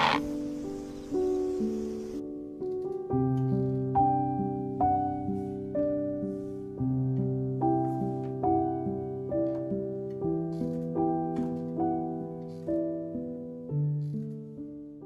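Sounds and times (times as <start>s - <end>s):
soft solo piano: 0.1s - 15.0s.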